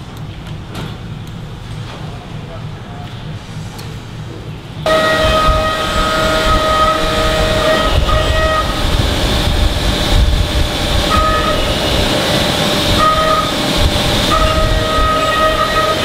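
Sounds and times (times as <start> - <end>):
factory machinery rumbling: 0.0 - 16.0
high machine whine: 0.0 - 16.0.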